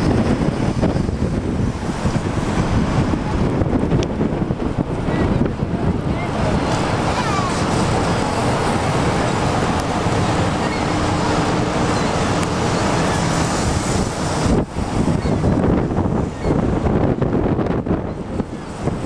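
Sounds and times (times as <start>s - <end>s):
waterfall roaring: 0.0s - 19.0s
wind buffeting microphone: 0.0s - 19.0s.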